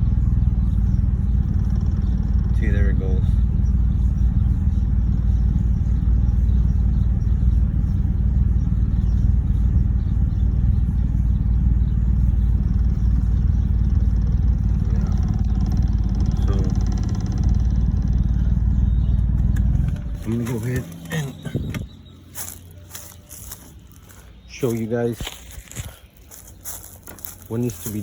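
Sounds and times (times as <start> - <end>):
car engine rough idle: 0.0 - 28.0.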